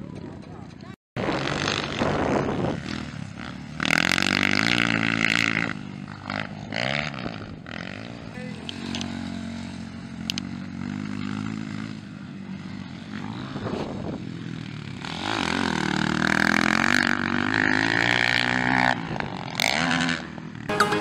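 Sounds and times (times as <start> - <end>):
dirt bike engines revving: 0.0 - 20.7.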